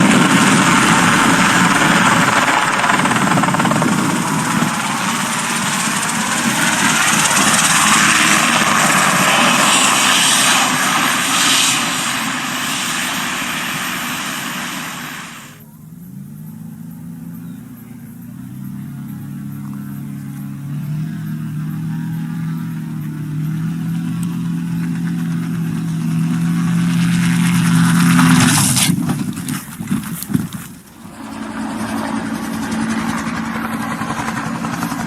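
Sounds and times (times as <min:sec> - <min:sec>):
engine drone rising in pitch: 0:00.0 - 0:29.1, 0:30.9 - 0:35.0
helicopter rotor running: 0:00.0 - 0:35.0.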